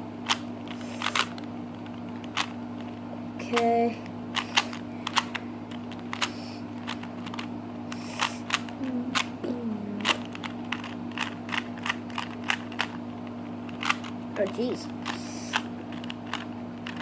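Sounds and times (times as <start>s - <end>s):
puzzle cube plastic clicks: 0.2s - 3.7s, 4.3s - 9.3s, 10.0s - 13.0s, 13.7s - 17.0s.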